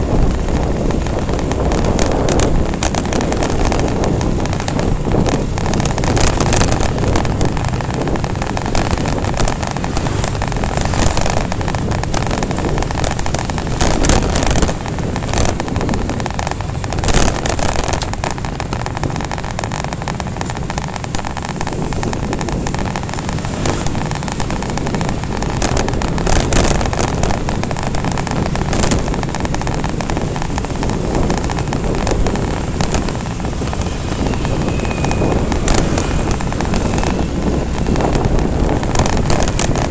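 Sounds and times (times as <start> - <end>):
motorcycle engines: 0.0 - 39.9
wind buffeting microphone: 0.0 - 39.9.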